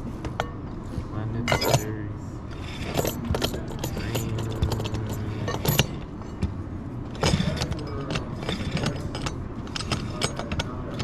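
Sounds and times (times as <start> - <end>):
metal parts and tools clinking: 1.4 - 11.0.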